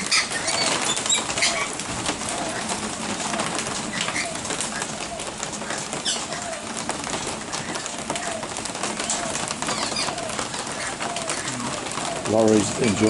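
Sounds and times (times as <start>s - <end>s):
dove cooing: 0.0s - 13.0s
rain hissing: 0.0s - 13.0s.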